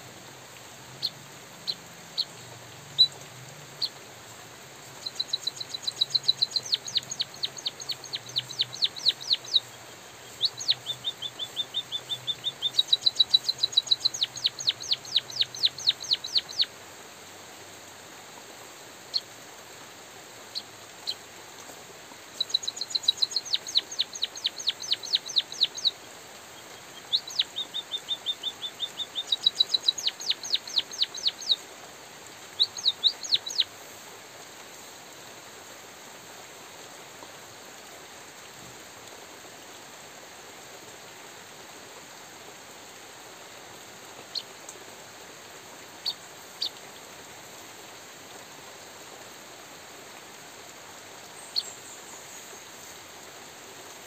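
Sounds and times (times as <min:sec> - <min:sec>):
light drizzle hiss: 0:00.0 - 0:54.0.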